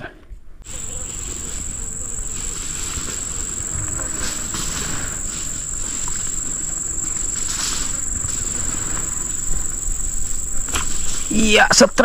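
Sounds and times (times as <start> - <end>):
grass rustling: 0.6 - 12.0
insects shrilling: 0.7 - 12.0.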